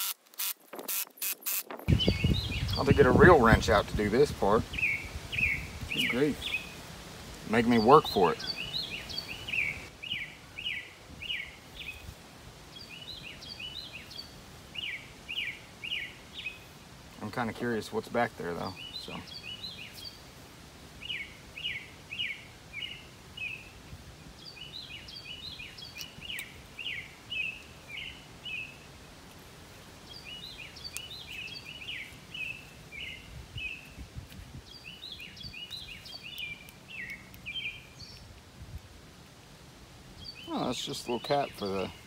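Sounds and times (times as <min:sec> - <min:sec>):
songbird chirping: 0:01.5 - 0:42.0.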